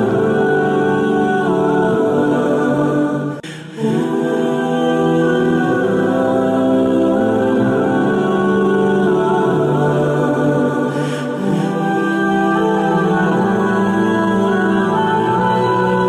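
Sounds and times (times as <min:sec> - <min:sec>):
choir-like held chords: 0:00.0 - 0:16.0.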